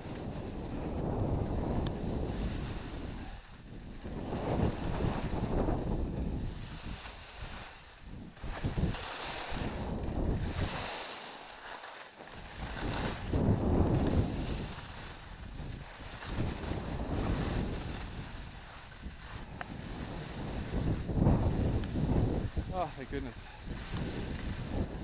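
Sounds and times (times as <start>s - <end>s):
wind rushing over microphone: 0.0s - 11.1s, 12.3s - 25.0s
skis scraping on hard snow: 0.1s - 25.0s.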